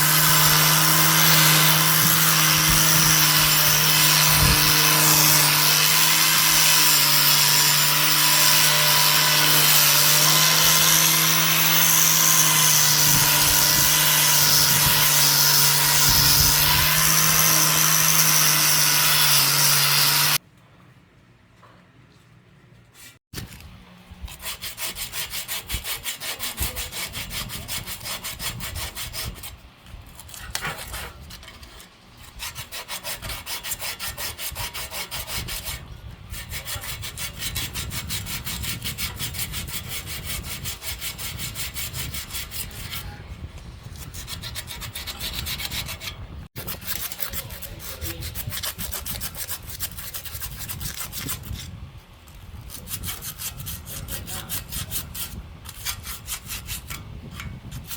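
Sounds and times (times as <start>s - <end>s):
hand tool scraping strokes: 0.0s - 20.4s, 22.9s - 57.9s.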